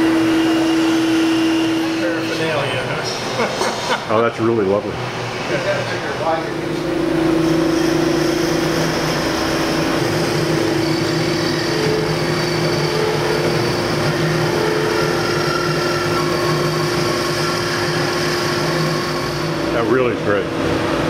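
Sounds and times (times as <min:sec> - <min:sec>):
woodshop machinery humming: 0:00.0 - 0:21.0.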